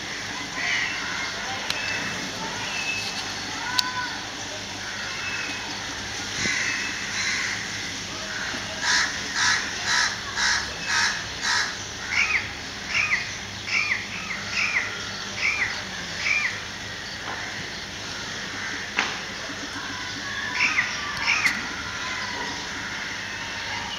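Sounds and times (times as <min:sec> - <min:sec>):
harsh bird calls: 0:00.0 - 0:23.9.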